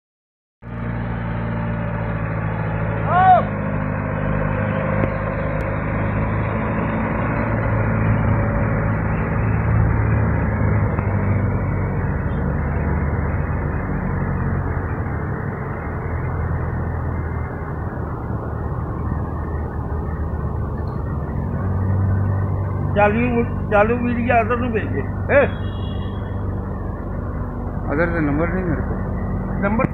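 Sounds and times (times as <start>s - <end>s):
forklift engine running: 0.6s - 29.9s.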